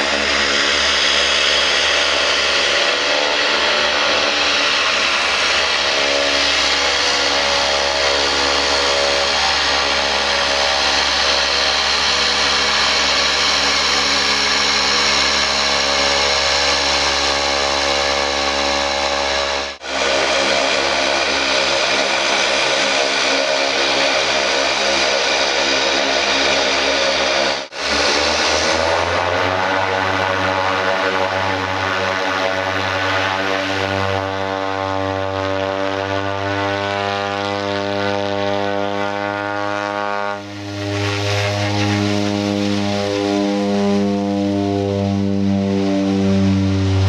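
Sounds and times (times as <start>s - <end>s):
turboprop engines whining: 0.0s - 47.0s.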